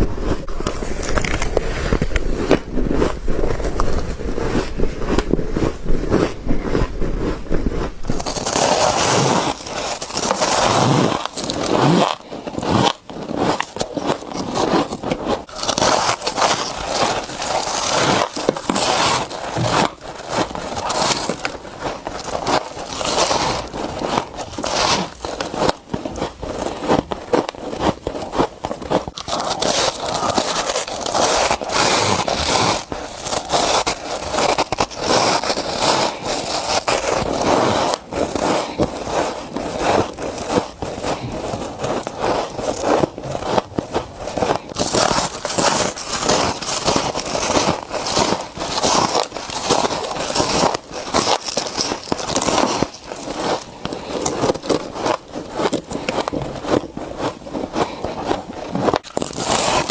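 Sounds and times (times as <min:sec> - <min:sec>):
crunching bites into frost: 0:00.0 - 0:07.4, 0:08.0 - 0:59.9.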